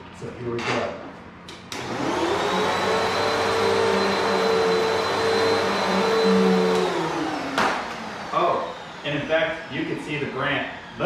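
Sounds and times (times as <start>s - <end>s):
vacuum cleaner motor whine: 1.7s - 11.0s.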